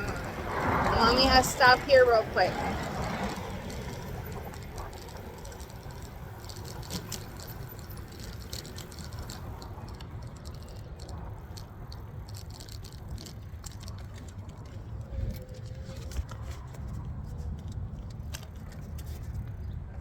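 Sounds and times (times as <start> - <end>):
e-bike rattling: 0.0 - 20.0.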